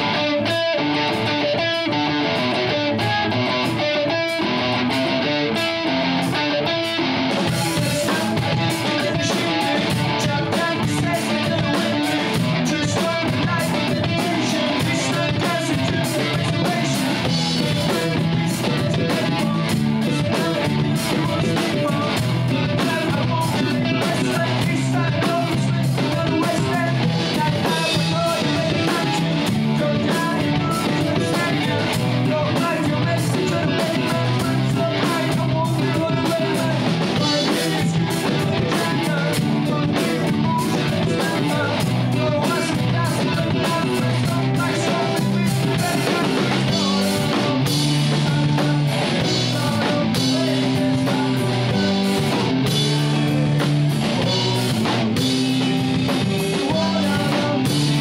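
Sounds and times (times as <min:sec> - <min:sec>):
amplified electric guitars: 0:00.0 - 0:58.0
drum kit beat: 0:00.0 - 0:58.0.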